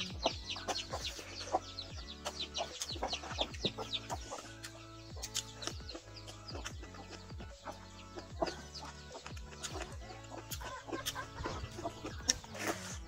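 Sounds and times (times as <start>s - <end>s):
background music with steady beat: 0.0s - 13.0s
chickens clucking: 0.0s - 13.0s.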